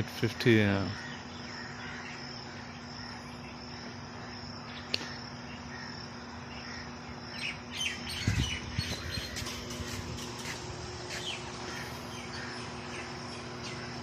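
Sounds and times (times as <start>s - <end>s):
insects chirring: 0.0s - 14.0s
bird chirps: 0.8s - 14.0s
low hum: 0.9s - 14.0s.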